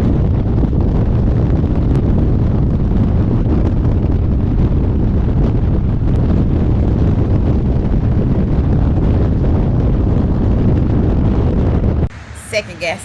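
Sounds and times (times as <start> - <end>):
motorcycle running: 0.0 - 13.0
wind noise on microphone: 0.0 - 13.0.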